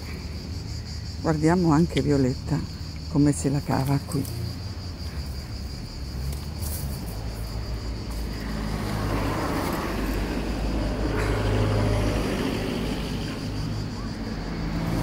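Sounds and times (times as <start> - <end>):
high insect buzz: 0.0 - 15.0
low traffic hum: 0.0 - 15.0
vehicle passing: 2.2 - 15.0.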